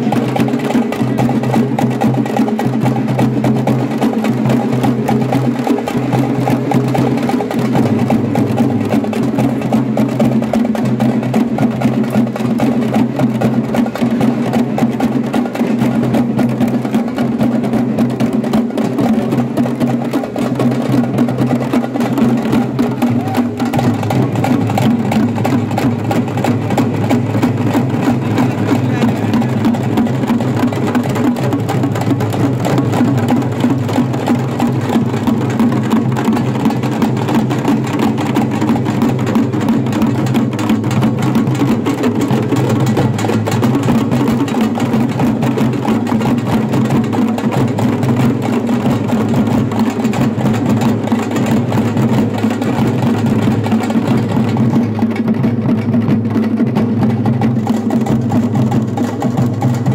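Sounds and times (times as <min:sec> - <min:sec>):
frame drums beaten with sticks: 0:00.0 - 0:59.9.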